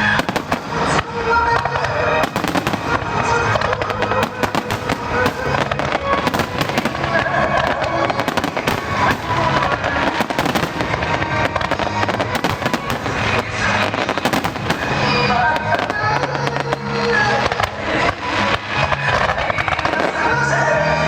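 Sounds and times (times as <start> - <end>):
fireworks bangs and crackling: 0.0 - 21.0
music playing: 0.0 - 21.0.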